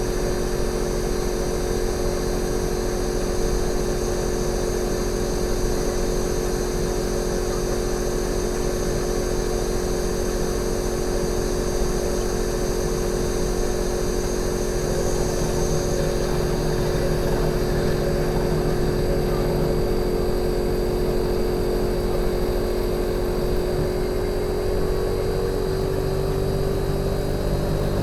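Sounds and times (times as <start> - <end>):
air conditioner compressor hum: 0.0 - 28.0.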